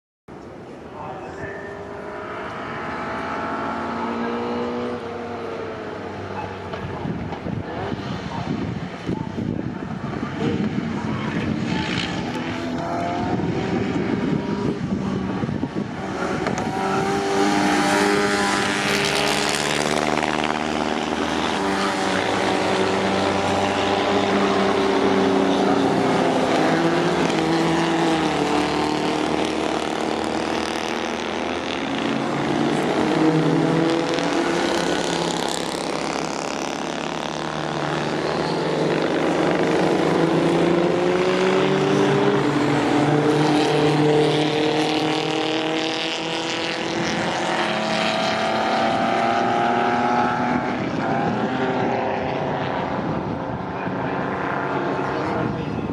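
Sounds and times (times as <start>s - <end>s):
racing car engines revving: 0.3s - 55.9s.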